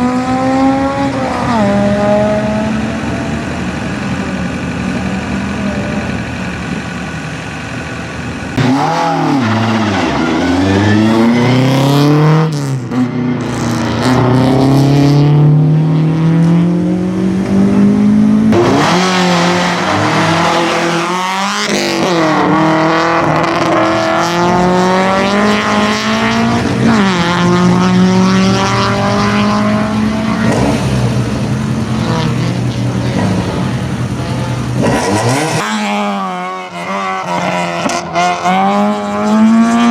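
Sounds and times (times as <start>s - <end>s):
racing car engine accelerating: 0.0s - 6.8s, 8.4s - 39.9s.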